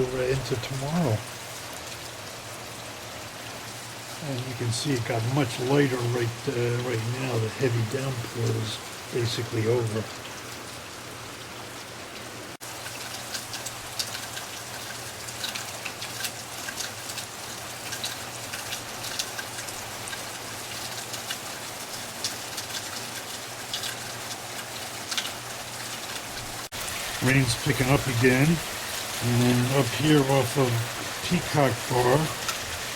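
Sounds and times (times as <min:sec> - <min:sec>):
rain drops pattering: 0:00.0 - 0:32.9.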